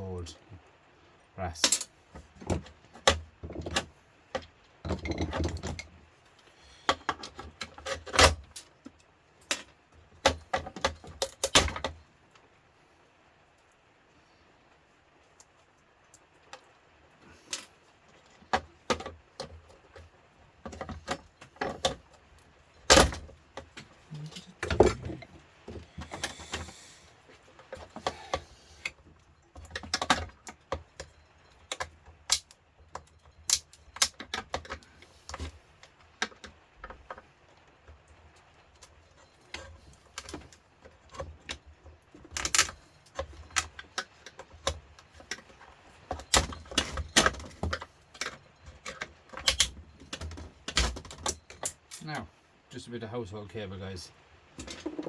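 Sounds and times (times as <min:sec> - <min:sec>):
small parts clicking and clinking: 0:01.5 - 0:12.4, 0:15.3 - 0:52.3.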